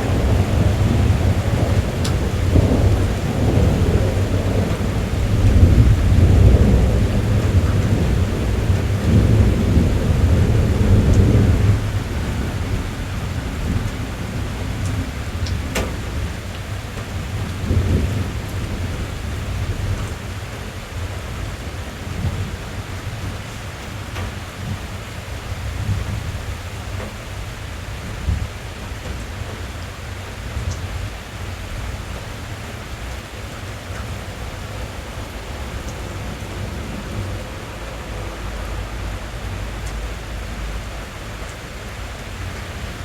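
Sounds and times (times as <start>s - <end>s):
rolling thunder: 0.0s - 29.5s, 30.6s - 43.0s
rain on car roof: 0.0s - 43.0s.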